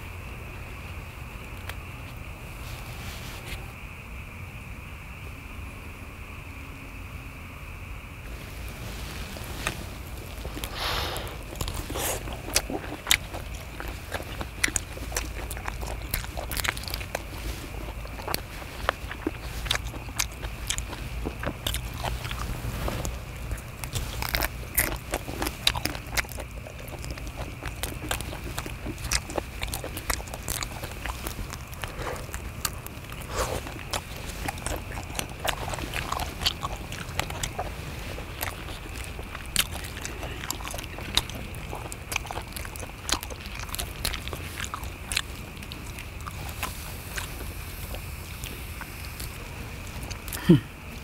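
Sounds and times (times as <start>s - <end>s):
chewing prawns: 0.0s - 3.7s, 8.4s - 51.0s.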